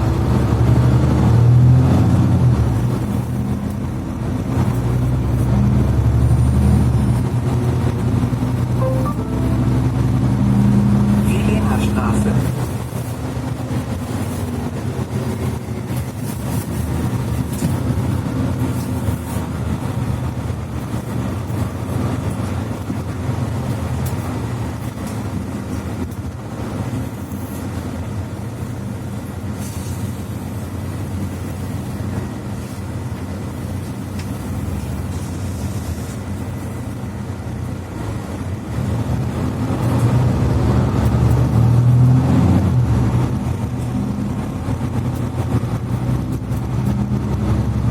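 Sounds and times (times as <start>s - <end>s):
bus engine running: 0.0s - 47.9s
road rumble: 0.0s - 47.9s.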